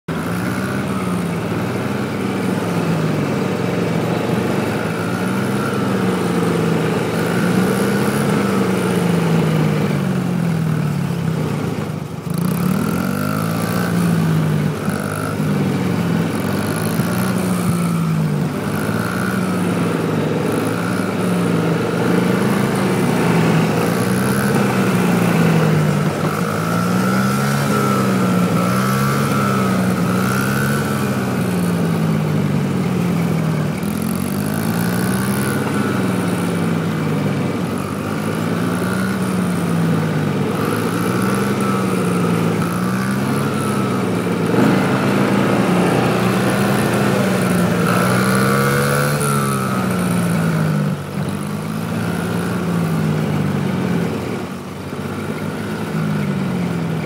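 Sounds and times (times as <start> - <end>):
dirt bike engines: 0.0 - 57.0.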